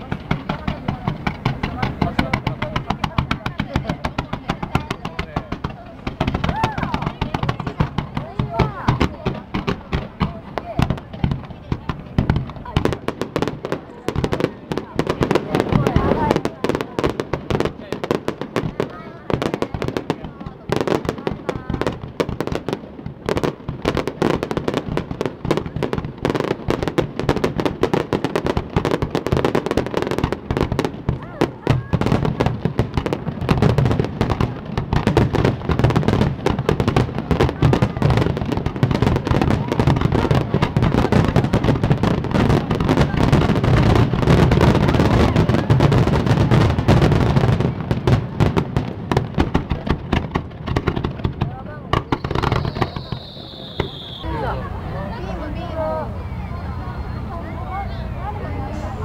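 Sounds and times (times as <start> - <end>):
fireworks popping and crackling: 0.0 - 54.5.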